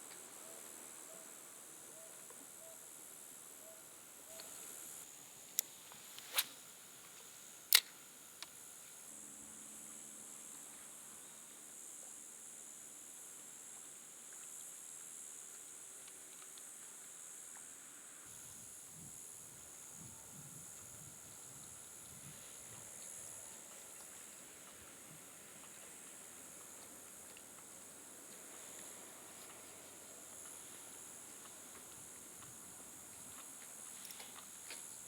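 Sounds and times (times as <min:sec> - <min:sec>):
faint high hiss: 0:00.0 - 0:35.0.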